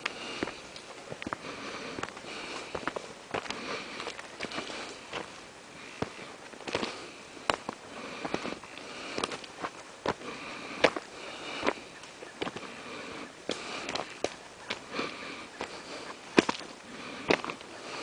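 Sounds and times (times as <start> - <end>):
steady rustling: 0.0 - 18.0.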